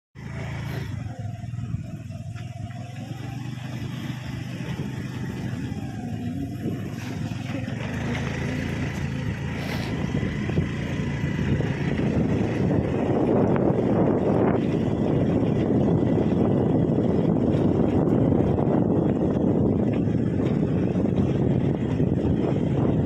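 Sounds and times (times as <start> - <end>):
vehicle engine on rough road: 0.2 - 23.0.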